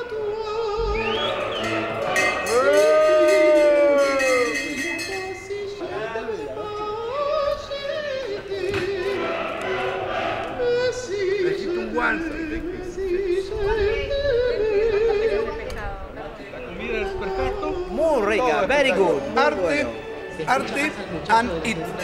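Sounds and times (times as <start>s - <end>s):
person singing operatically: 0.0s - 15.7s, 16.6s - 22.0s.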